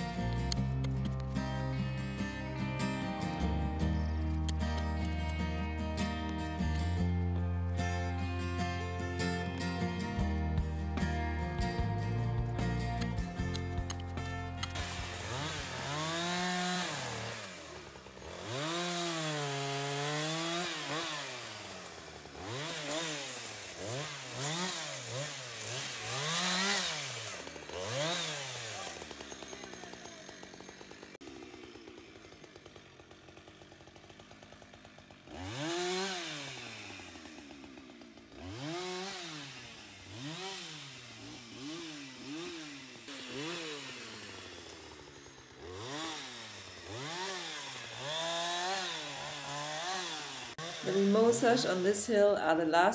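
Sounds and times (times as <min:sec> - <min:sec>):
chainsaw revving while cutting: 0:00.0 - 0:52.6.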